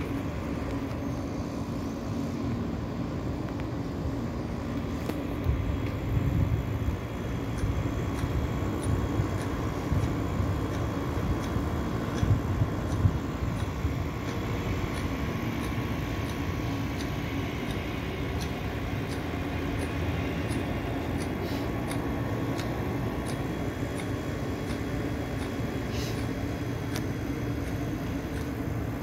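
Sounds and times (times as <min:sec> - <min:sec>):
distant city traffic rumble: 0:00.0 - 0:29.0.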